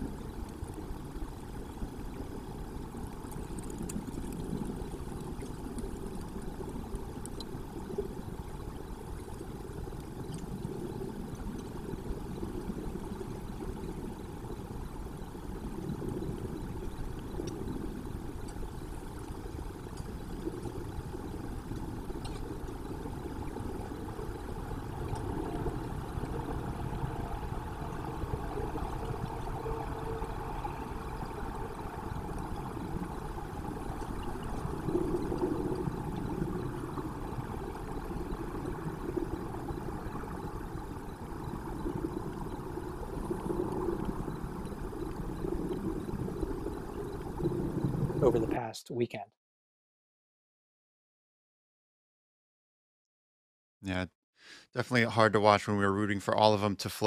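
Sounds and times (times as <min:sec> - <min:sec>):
faint high ticks: 0:00.0 - 0:26.7, 0:27.6 - 0:48.4
low rumbling background noise: 0:00.0 - 0:48.8
faint hum: 0:00.0 - 0:49.3.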